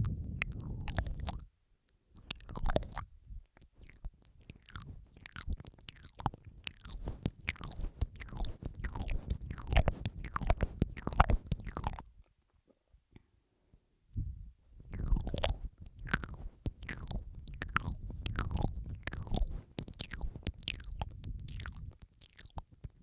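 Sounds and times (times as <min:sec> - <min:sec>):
wet mouth clicks and smacks: 0:00.4 - 0:01.5, 0:02.2 - 0:12.1, 0:14.9 - 0:23.0.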